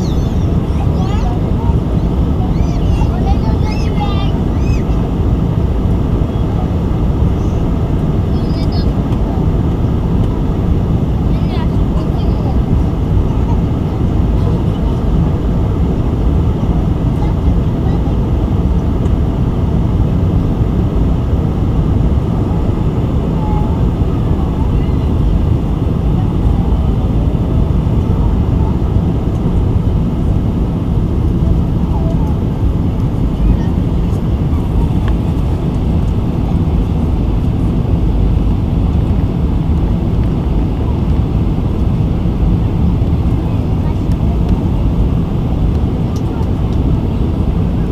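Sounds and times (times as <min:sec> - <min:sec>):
airplane cabin rumble: 0:00.0 - 0:47.9
jet engines droning: 0:00.0 - 0:47.9.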